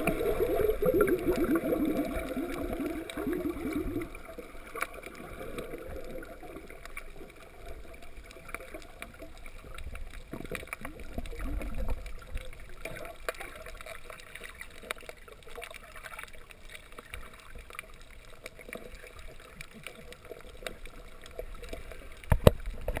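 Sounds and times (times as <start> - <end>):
low rumbling water movement: 0.0 - 23.0
muffled underwater hiss: 0.0 - 23.0
small underwater clicks and crackles: 0.0 - 23.0.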